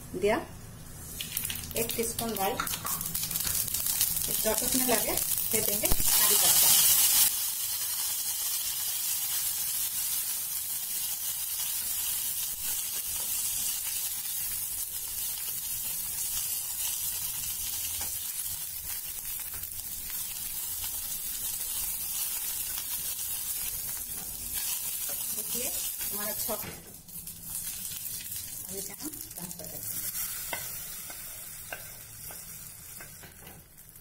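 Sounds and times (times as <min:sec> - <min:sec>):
hot oil sizzling in a pan: 0:00.8 - 0:34.0.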